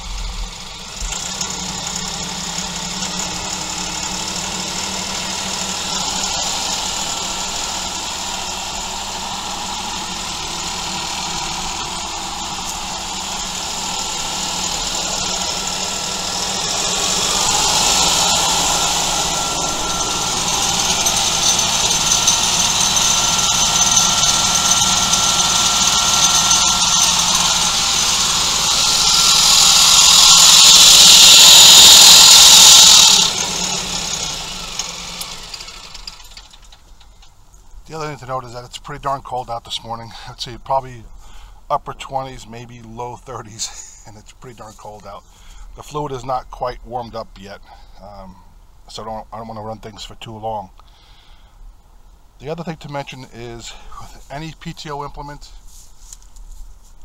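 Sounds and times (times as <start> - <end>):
tractor diesel engine running: 0.0 - 56.9
faint steady whine: 0.0 - 57.0.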